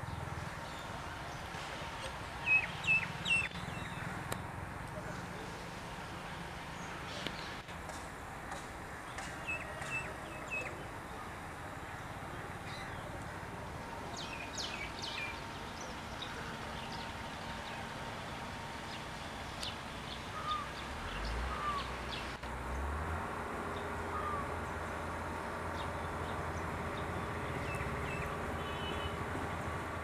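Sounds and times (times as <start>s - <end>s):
birds chirping: 0.0s - 5.2s, 9.0s - 22.4s, 23.6s - 29.9s
outdoor background hiss: 0.0s - 30.0s.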